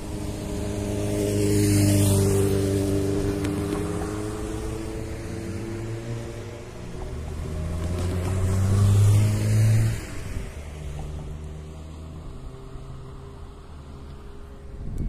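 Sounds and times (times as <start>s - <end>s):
car driving past: 0.0s - 14.7s
steady traffic hum: 0.0s - 15.0s.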